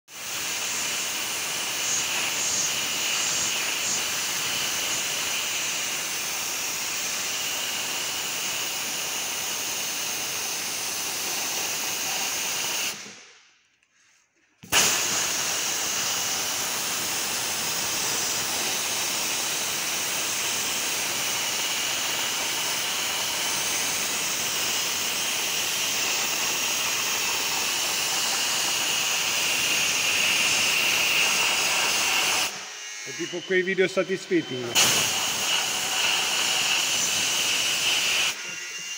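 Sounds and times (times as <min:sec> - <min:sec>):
dry-ice blasting gun hissing: 0:00.1 - 0:13.3, 0:14.6 - 0:38.9.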